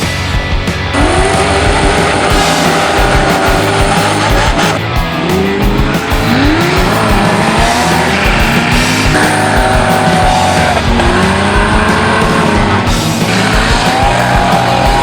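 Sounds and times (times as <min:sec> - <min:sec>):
engine revving: 0:00.0 - 0:15.0
music with steady beat: 0:00.0 - 0:15.0.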